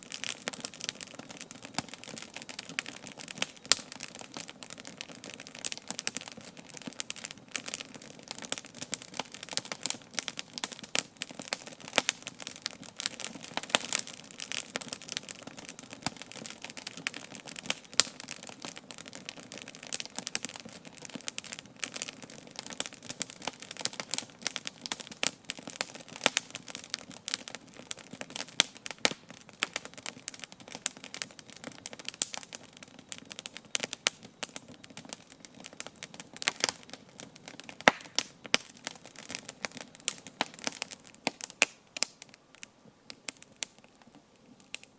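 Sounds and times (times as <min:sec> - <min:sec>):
campfire wood crackling and popping: 0:00.0 - 0:44.9.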